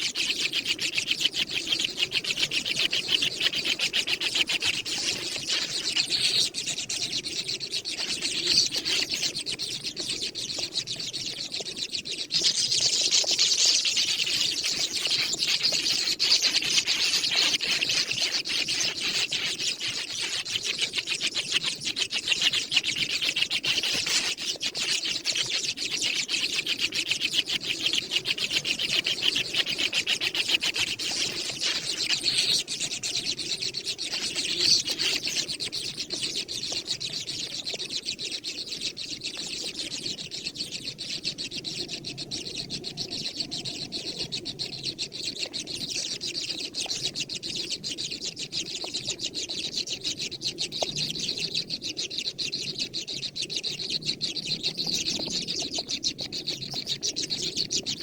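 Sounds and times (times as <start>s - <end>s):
young birds chattering: 0.0s - 58.0s.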